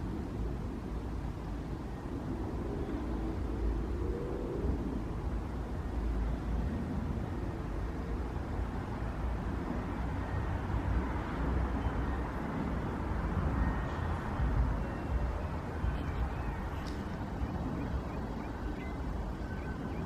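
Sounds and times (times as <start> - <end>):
steady outdoor hiss: 0.0 - 20.0
wind buffeting microphone: 0.0 - 20.0.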